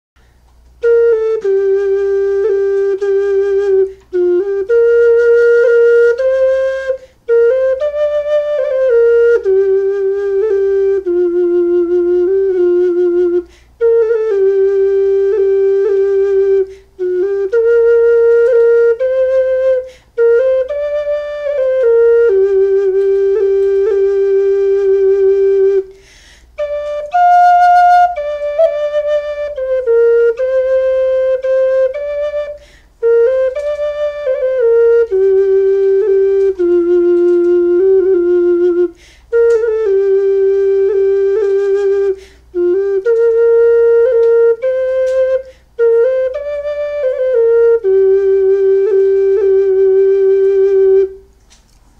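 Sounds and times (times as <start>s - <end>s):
ocarina playing a folk tune: 0.6s - 51.6s.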